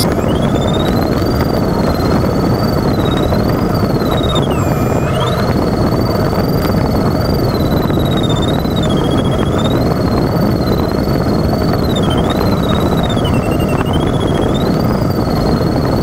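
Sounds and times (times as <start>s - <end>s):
airflow rushing in cockpit: 0.0s - 16.0s
variometer wavering tone: 0.0s - 16.0s.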